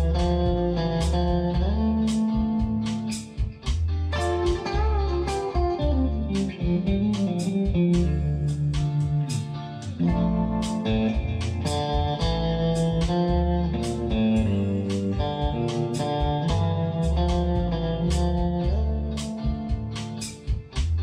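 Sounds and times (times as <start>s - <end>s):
bass: 0.0s - 21.0s
electric guitar melody: 0.0s - 21.0s
steady drum beat: 0.0s - 21.0s.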